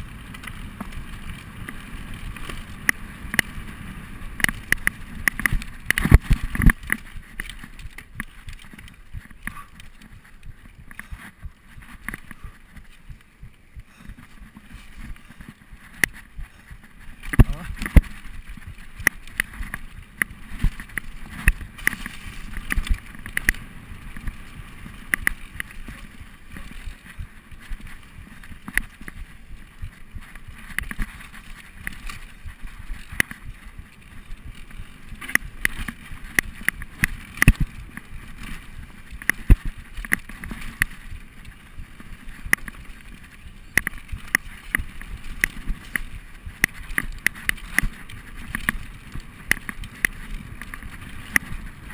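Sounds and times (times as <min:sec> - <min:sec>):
bike rattling over bumps: 0:00.0 - 0:51.9
tyre rushing on dirt: 0:00.0 - 0:51.9.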